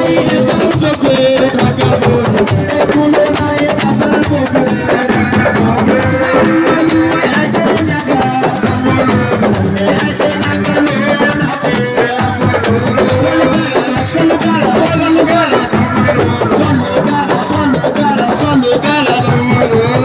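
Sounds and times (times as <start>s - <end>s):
drums: 0.0s - 20.0s
live band music: 0.0s - 20.0s.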